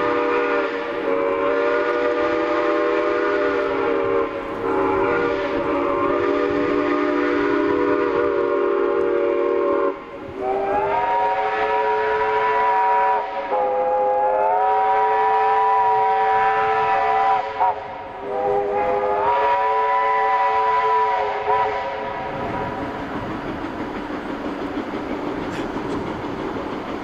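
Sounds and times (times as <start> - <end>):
steam locomotive chime whistle: 0.0 - 22.8.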